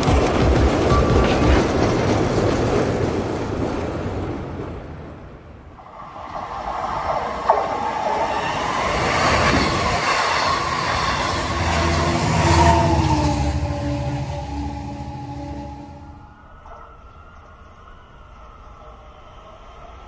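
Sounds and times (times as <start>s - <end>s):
train rolling on rails: 0.0s - 20.0s.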